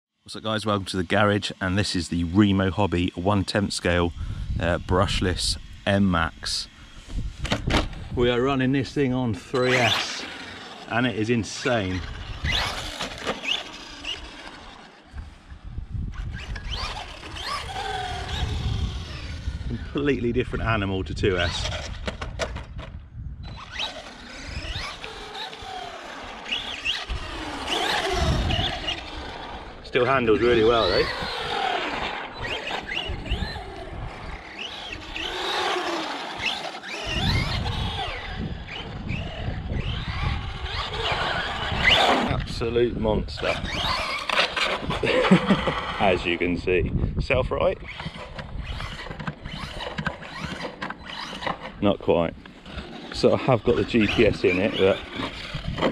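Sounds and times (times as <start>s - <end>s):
electric motor whining: 0.4s - 47.0s, 47.8s - 55.9s.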